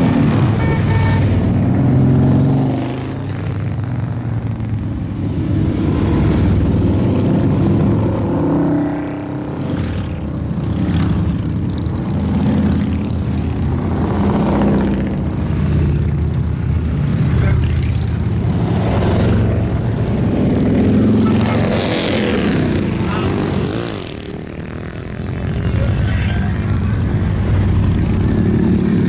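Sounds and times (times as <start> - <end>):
motorcycles riding past: 0.0 - 29.0.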